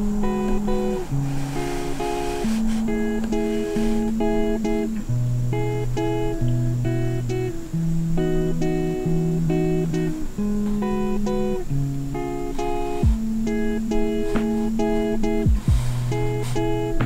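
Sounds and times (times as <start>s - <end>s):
rhythmic chords over bass: 0.0s - 11.0s, 11.8s - 17.0s.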